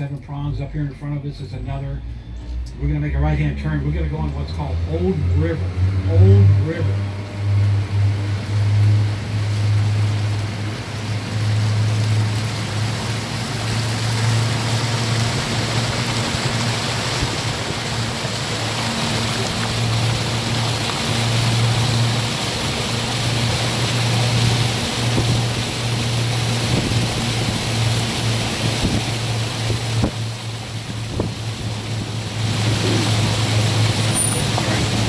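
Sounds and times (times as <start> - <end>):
boat motor humming: 0.0 - 35.0
water rushing past: 0.0 - 35.0.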